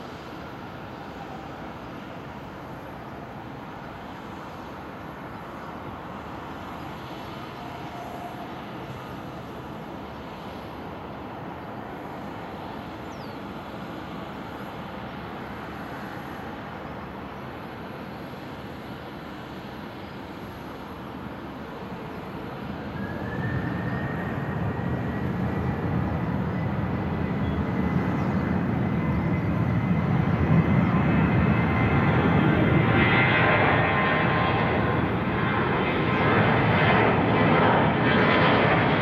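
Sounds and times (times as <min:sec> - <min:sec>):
jet engines running: 0:00.0 - 0:39.0
rising jet fan whine: 0:00.0 - 0:39.0.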